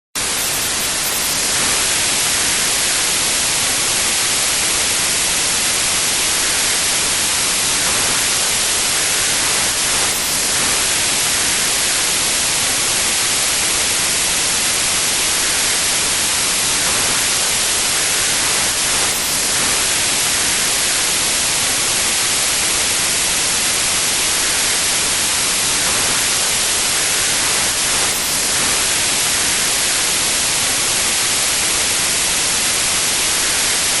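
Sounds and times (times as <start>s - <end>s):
white noise hiss: 0.2s - 34.0s.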